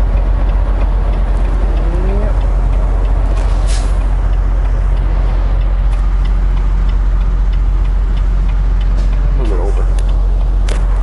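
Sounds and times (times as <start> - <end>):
diesel truck engine running: 0.0 - 11.0
turn signal ticking: 0.0 - 11.0.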